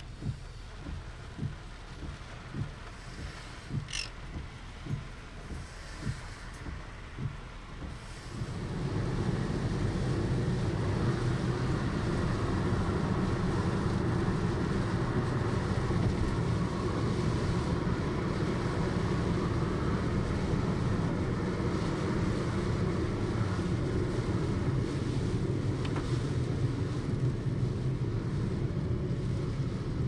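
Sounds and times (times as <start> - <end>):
heavy rain on moving car: 0.0 - 30.0.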